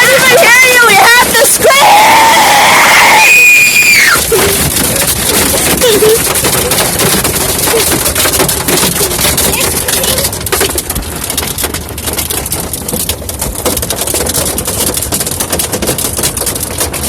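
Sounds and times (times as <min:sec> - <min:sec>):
hailstones clattering: 0:00.0 - 0:17.0.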